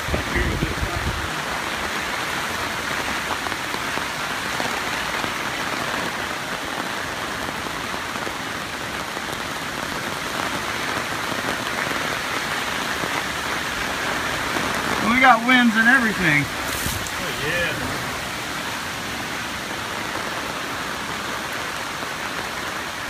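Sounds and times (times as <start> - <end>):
rain on leaves and tarps: 0.0 - 23.0.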